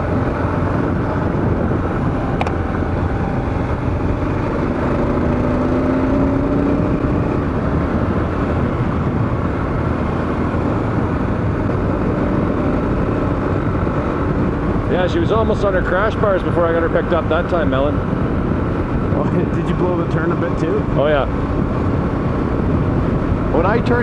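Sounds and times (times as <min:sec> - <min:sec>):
motorcycle engine: 0:00.0 - 0:24.0
wind noise on microphone: 0:00.0 - 0:24.0.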